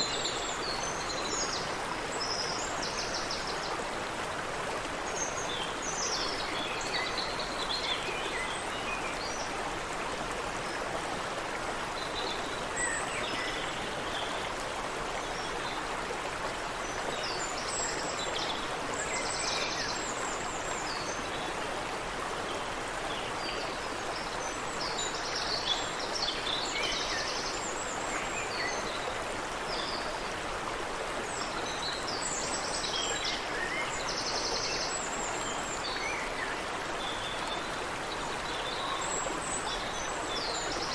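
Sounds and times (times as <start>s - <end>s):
creek water running: 0.0s - 40.9s.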